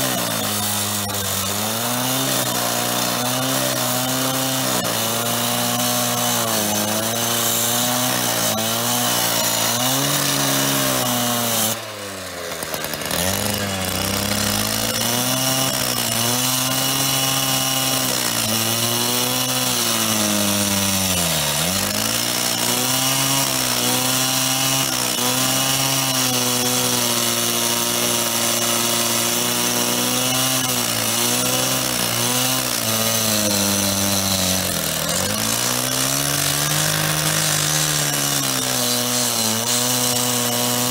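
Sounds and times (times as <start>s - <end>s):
power saw cutting metal: 0.0s - 40.9s.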